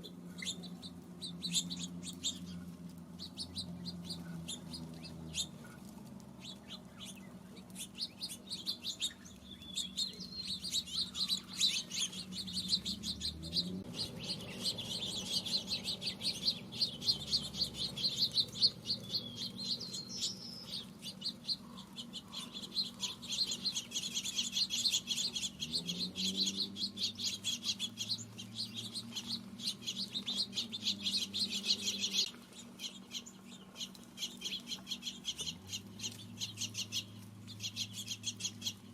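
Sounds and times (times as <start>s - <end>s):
low steady hum: 0.0s - 38.9s
songbirds chirping: 0.0s - 38.9s.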